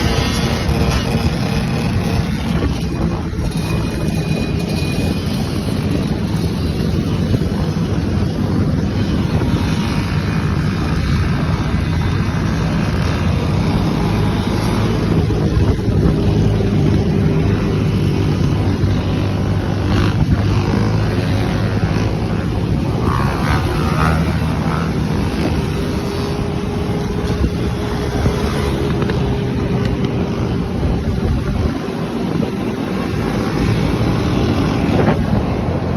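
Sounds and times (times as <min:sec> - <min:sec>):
quad bike engines running: 0:00.0 - 0:35.9
wind noise on microphone: 0:00.0 - 0:35.9.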